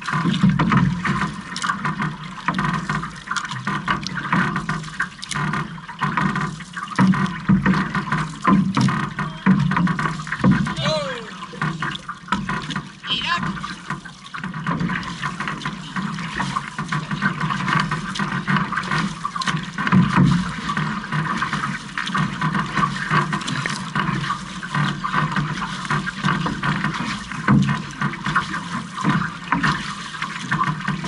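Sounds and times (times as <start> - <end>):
paddle stroke splashes: 0.0 - 31.0
water rushing along canoe hull: 0.0 - 31.0.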